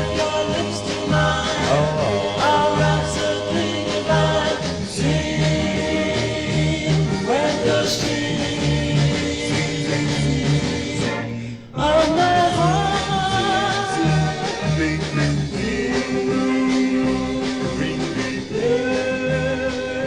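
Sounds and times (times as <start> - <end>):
rock and roll group singing: 0.0 - 20.0.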